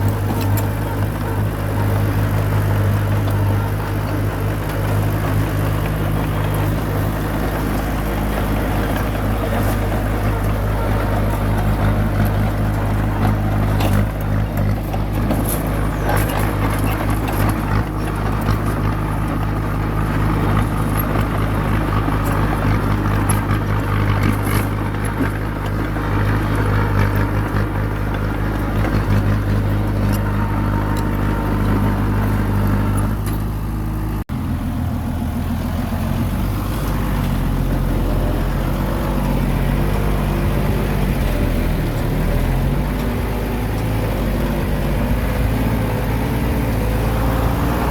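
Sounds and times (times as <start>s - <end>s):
bulldozer diesel engine running: 0.0s - 47.9s.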